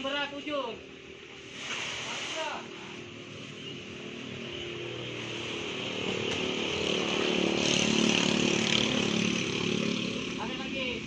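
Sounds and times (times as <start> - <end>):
vehicle engine passing: 0.9 - 11.0.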